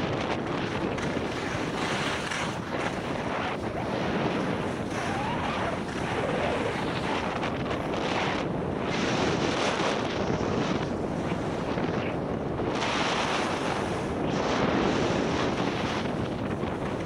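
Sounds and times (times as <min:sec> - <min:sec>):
wind on microphone: 0:00.0 - 0:17.0
skis sliding over snow: 0:00.4 - 0:17.0.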